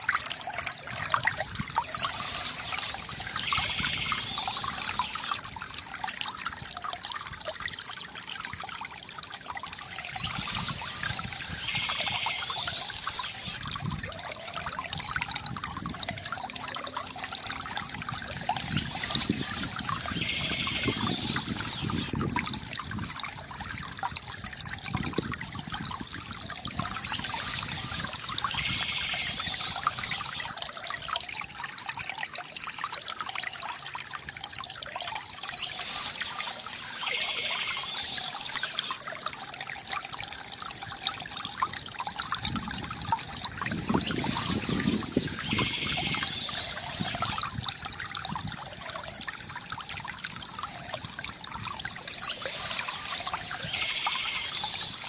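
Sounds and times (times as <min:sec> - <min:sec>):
stream trickling and splashing: 0:00.0 - 0:55.0.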